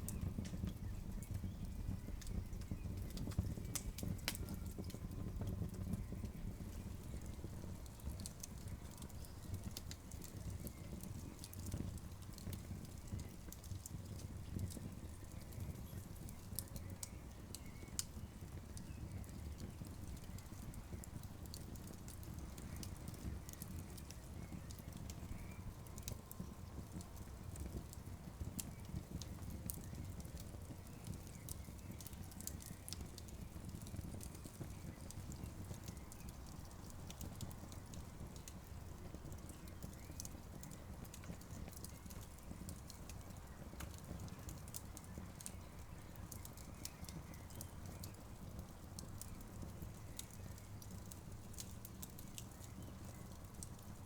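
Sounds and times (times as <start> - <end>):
campfire crackling and popping: 0.0 - 54.0
campfire low rumble: 0.0 - 54.0.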